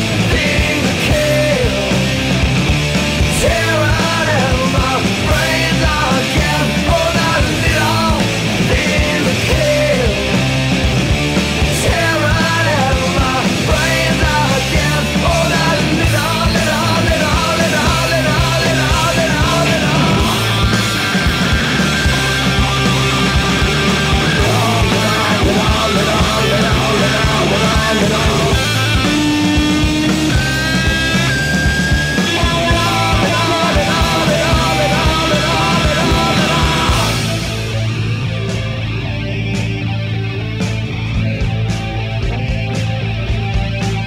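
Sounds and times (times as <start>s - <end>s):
loud rock music: 0.0s - 44.0s.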